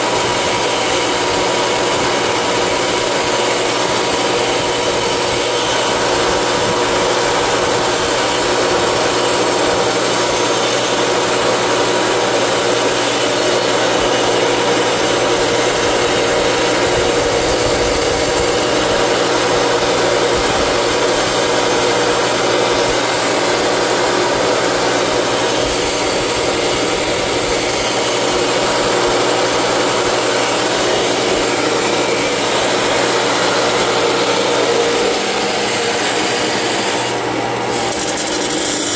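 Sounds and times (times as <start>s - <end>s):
cutoff saw motor humming: 0.0s - 38.9s.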